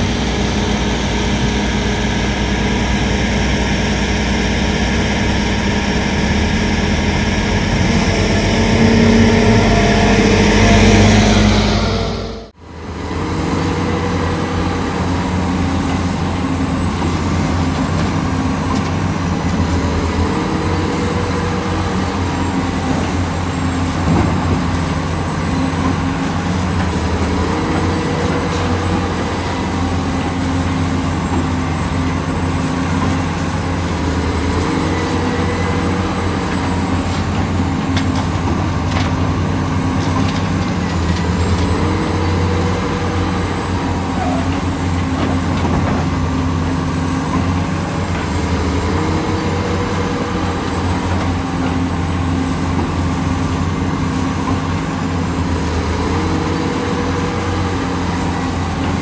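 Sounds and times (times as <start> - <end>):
diesel excavator engine: 0.0 - 59.0.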